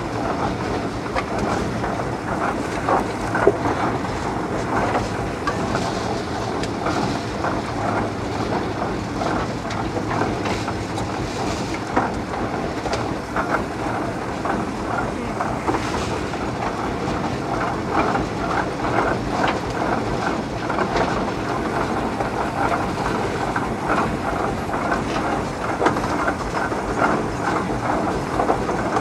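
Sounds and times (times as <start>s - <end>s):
steam engine mechanical clatter: 0.0s - 29.0s.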